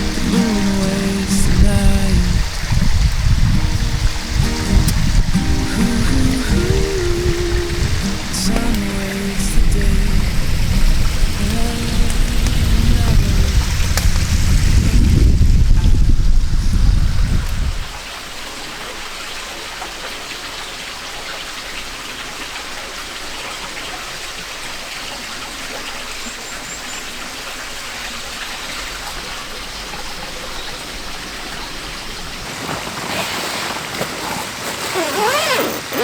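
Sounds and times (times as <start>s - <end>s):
flowing stream: 0.0s - 36.0s
light rain hiss: 0.0s - 36.0s.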